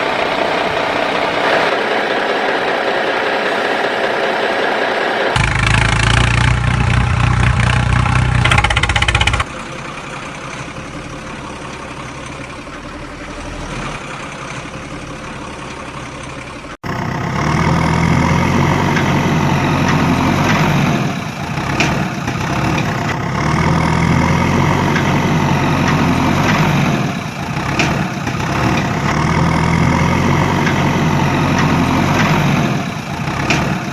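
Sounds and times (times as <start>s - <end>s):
engine running: 0.0s - 33.9s.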